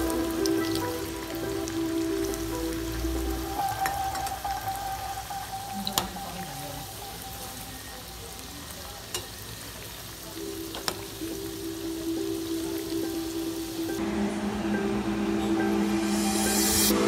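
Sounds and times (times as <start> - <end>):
food deep-frying in oil: 0.0 - 14.0.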